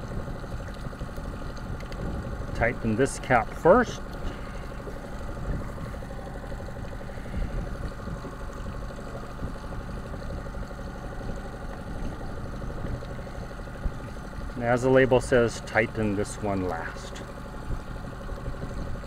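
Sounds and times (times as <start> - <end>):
motorboat engine idling: 0.0 - 19.0.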